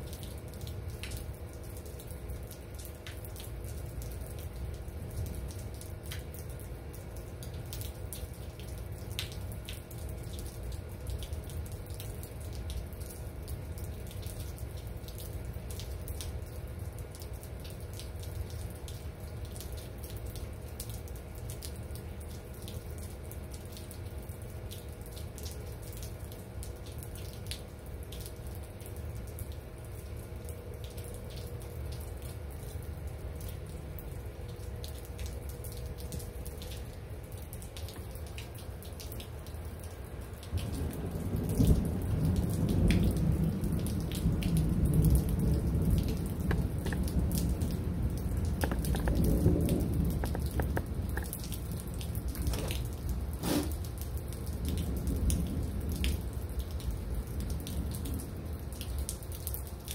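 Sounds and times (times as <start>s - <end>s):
steady rain falling: 0.0s - 59.9s
water running and dripping: 0.0s - 59.9s.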